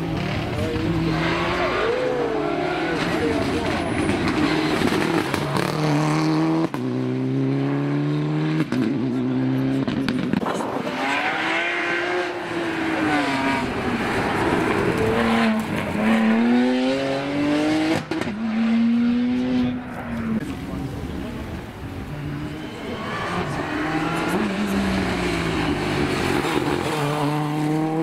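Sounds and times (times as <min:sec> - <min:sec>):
rally car accelerating with upshifts: 0:00.0 - 0:28.0
second rally car engine: 0:00.0 - 0:28.0.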